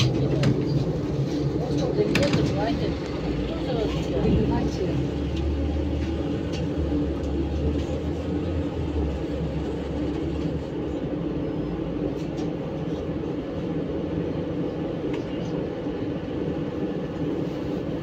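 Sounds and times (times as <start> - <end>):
trolleybus hum and rumble: 0.0 - 18.0.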